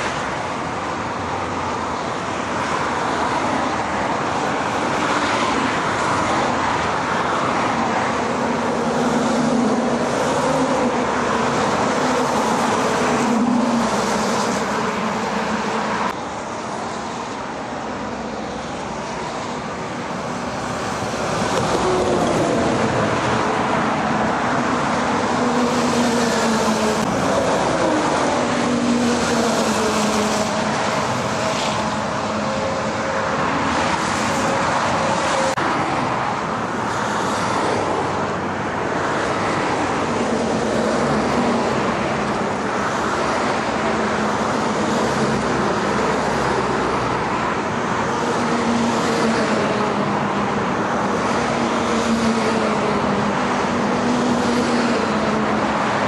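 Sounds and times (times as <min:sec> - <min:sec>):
vehicles passing on wet road: 0:00.0 - 0:56.0.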